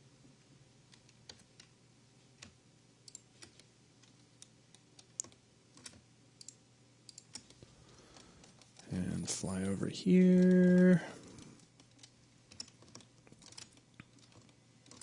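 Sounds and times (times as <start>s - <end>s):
low steady hum: 0.0s - 15.0s
keyboard and mouse clicks: 0.9s - 1.8s, 2.4s - 15.0s.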